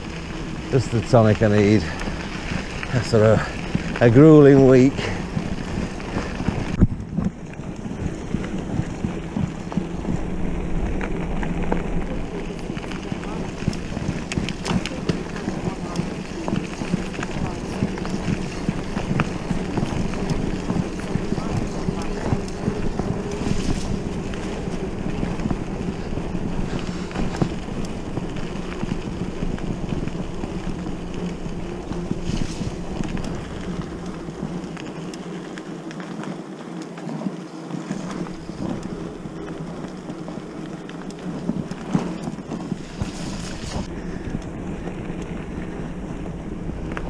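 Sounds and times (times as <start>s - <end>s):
wind buffeting microphone: 0.0s - 36.7s, 37.6s - 47.0s
bike rolling on gravel: 0.0s - 47.0s.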